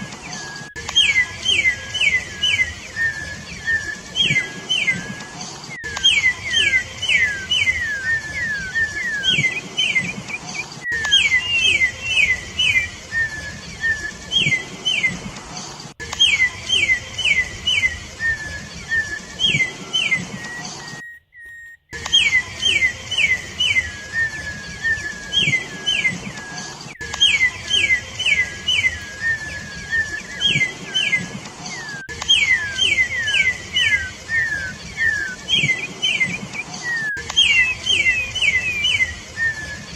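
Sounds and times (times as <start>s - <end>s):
bird singing whistled phrases: 0.0s - 15.3s, 16.0s - 39.9s.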